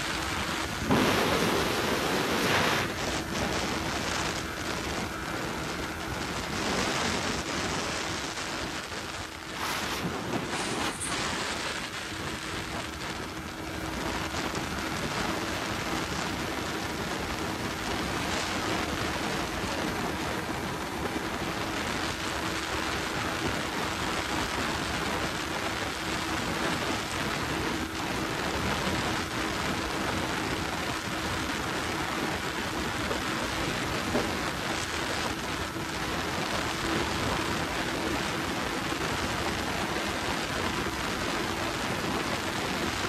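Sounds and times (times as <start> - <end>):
steady hum: 0.0 - 43.0
wind rushing over microphone: 0.0 - 43.0.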